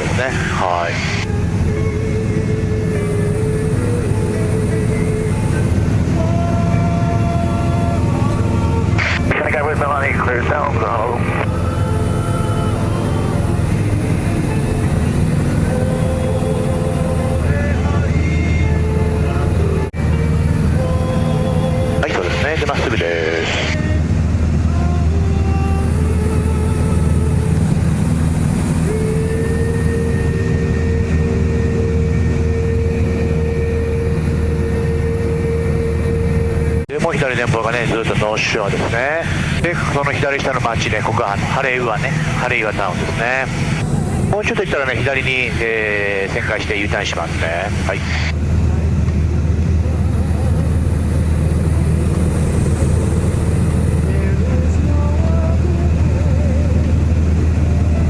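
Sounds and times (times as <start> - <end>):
propeller aircraft engine drone: 0.0 - 58.0
rushing noise: 0.0 - 58.0.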